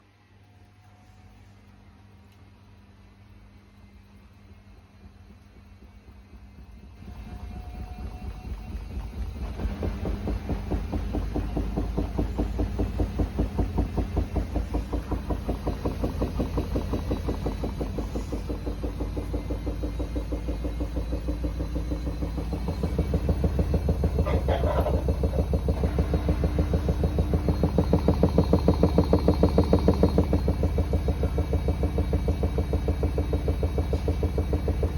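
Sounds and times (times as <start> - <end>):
washing machine rhythmic pulsing: 0.0 - 34.9.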